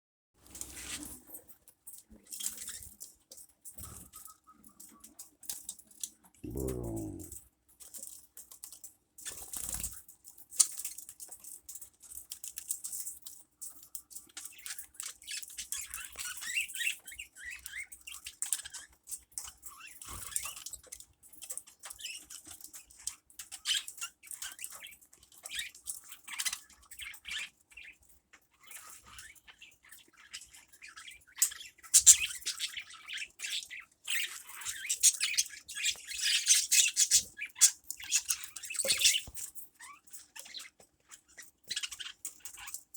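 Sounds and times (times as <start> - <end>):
small birds chirping and squawking: 2.2 - 8.6, 10.6 - 42.9.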